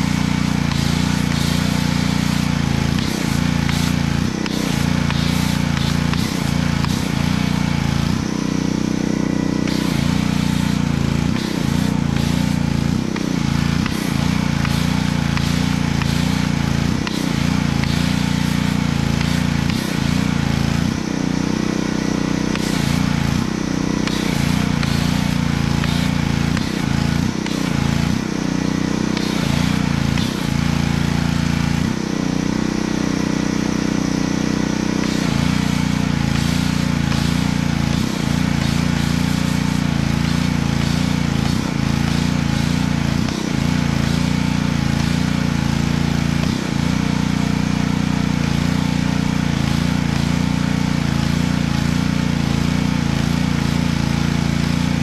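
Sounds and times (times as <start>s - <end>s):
foam spraying hiss: 0.0s - 55.0s
pressure washer running: 0.0s - 55.0s.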